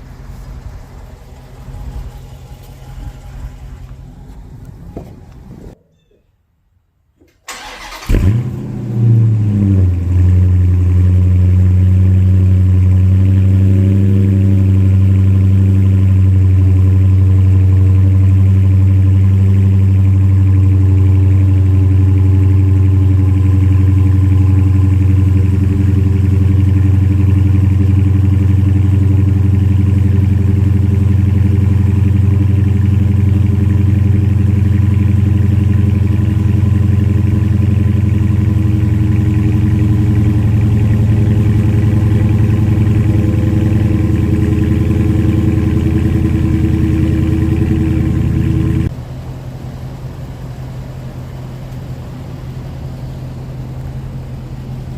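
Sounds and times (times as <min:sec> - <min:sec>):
car engine starting and idling: 0:00.0 - 0:05.8, 0:07.2 - 0:54.9.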